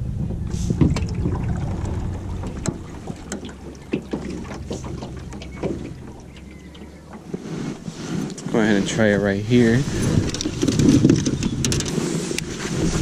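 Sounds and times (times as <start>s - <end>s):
low steady hum: 0.0s - 11.6s
water lapping against hull: 0.0s - 13.0s.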